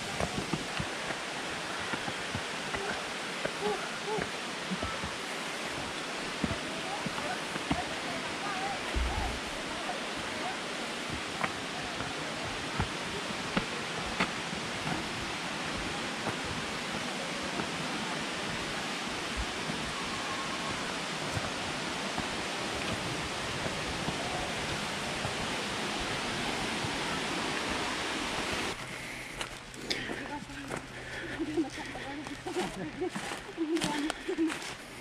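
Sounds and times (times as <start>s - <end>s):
waterfall rushing: 0.0s - 28.8s.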